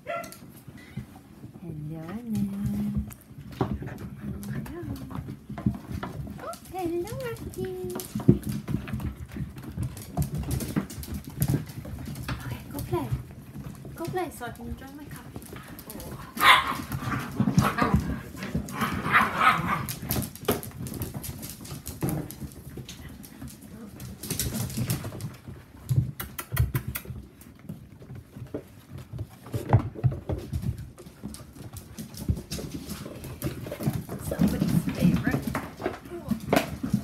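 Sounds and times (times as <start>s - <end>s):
dogs scuffling: 0.0s - 37.0s
claws clicking on floor: 2.6s - 37.0s.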